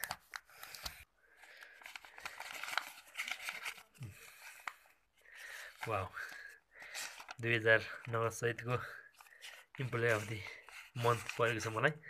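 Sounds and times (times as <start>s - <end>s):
banknotes crackling: 0.0s - 11.9s
paper envelope rustling: 0.0s - 11.9s.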